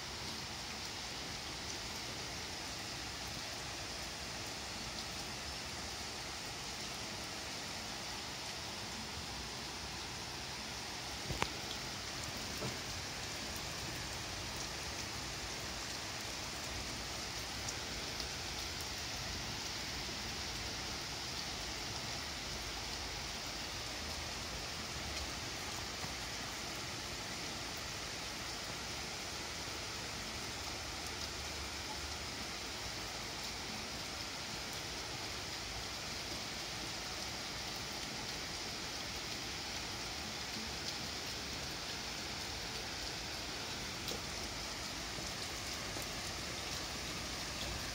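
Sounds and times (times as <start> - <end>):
rain on trees and metal roof: 0.0 - 47.9.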